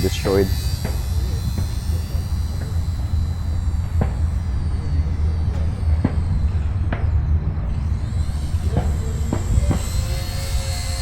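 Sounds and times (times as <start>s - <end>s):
rc plane motor buzzing whine: 0.0s - 11.0s.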